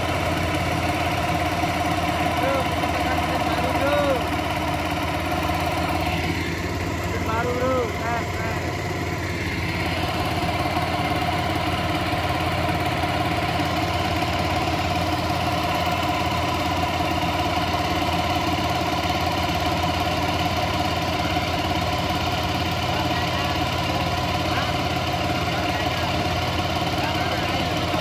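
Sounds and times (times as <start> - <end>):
outboard engine running steadily: 0.0 - 28.0.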